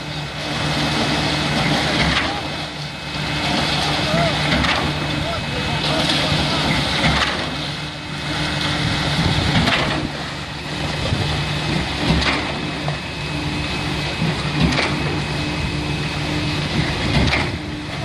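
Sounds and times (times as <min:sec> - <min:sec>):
diesel engine running: 0:00.0 - 0:18.0
pump knocking: 0:00.4 - 0:15.7, 0:16.5 - 0:18.0.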